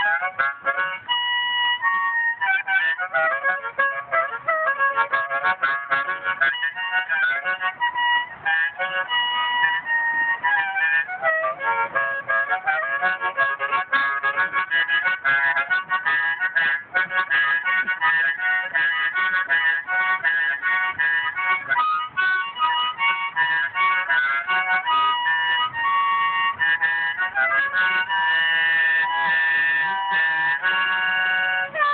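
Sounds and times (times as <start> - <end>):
harmonica playing: 0.0 - 31.9.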